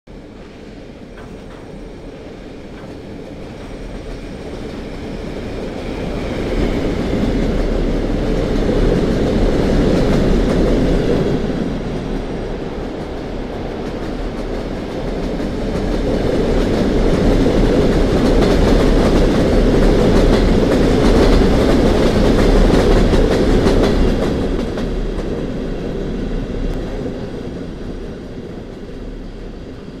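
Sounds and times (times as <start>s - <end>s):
diesel locomotive engine: 0.1s - 30.0s
train wheels clicking on rails: 0.1s - 30.0s.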